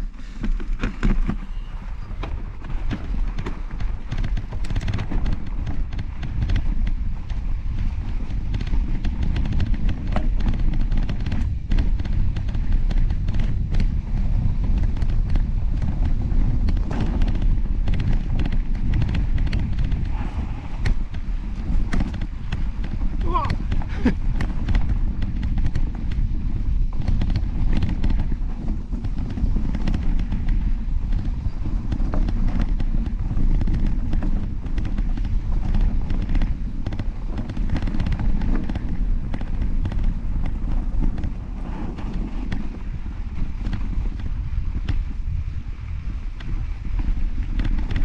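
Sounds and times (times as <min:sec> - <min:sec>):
bike clicking and rattling: 0:00.0 - 0:48.0
low wind rumble: 0:00.0 - 0:48.0.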